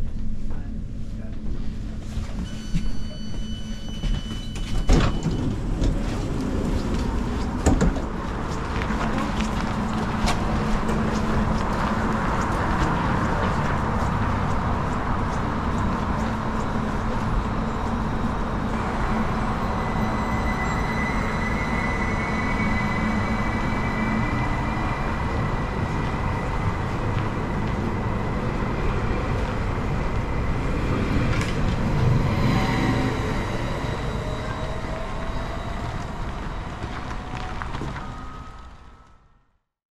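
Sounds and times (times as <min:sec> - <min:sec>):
train wheels rumbling on rail: 0:00.0 - 0:39.2.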